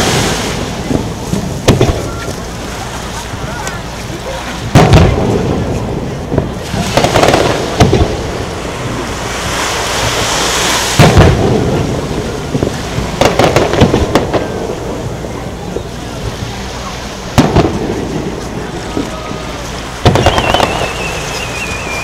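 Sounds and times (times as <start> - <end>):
firework sharp bangs: 0.0 - 3.0, 4.6 - 16.5, 17.2 - 22.0
firework deep booms: 0.0 - 3.4, 4.6 - 22.0.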